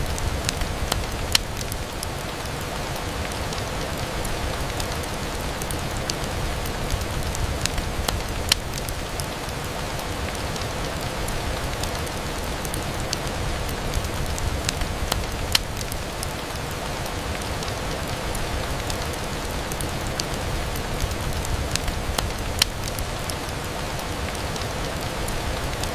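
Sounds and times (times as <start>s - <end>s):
rain on a window: 0.0s - 25.9s.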